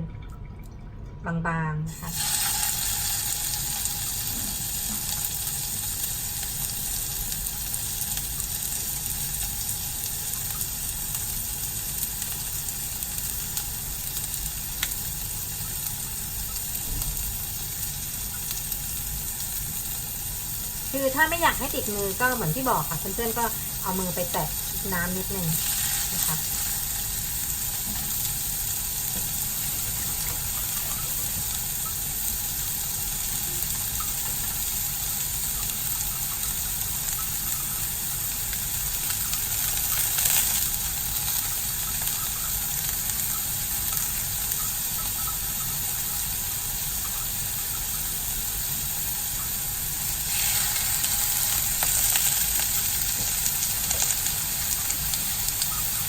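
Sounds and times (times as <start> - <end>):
patties sizzling in a pan: 1.9 - 56.0.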